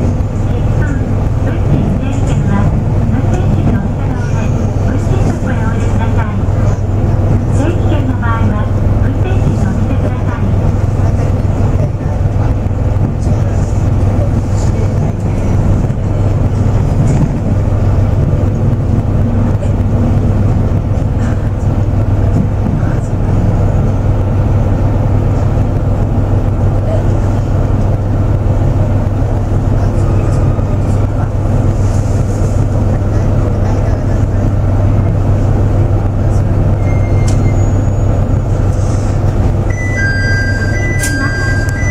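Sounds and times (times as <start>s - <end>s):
diesel railcar engine drone: 0.0s - 41.9s.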